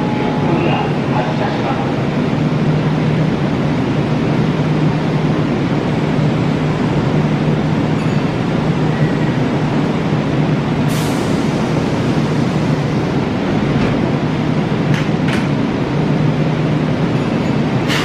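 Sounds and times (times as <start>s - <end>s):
electric train humming: 0.0s - 17.9s.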